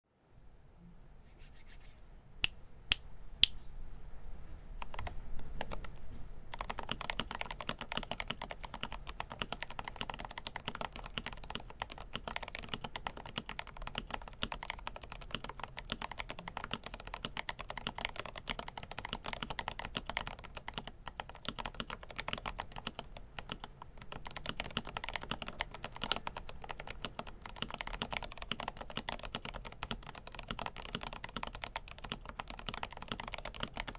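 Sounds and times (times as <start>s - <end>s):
mechanical keyboard typing: 4.8s - 33.9s.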